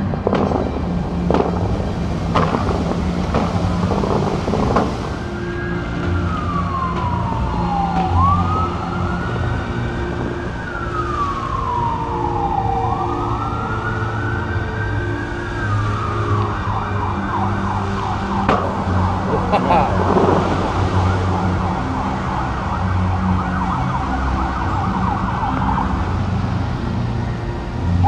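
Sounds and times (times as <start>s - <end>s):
fountain water jets whooshing: 0.0s - 28.0s
siren wailing: 0.2s - 28.0s.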